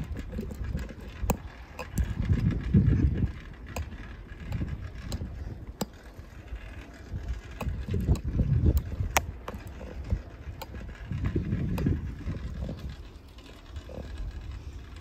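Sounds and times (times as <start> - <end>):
bicycle clicks and rattles: 0.0 - 15.0
wind buffeting microphone: 0.0 - 15.0.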